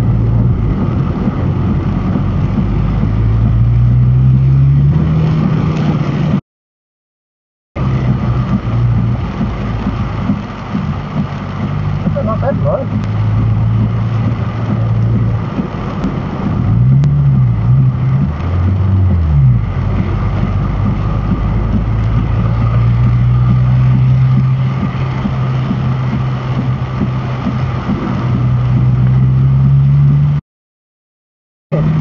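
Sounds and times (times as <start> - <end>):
car engine running: 0.0 - 6.4, 7.8 - 30.4, 31.7 - 32.0
rain and tyre spray hissing: 0.0 - 6.4, 7.8 - 30.4.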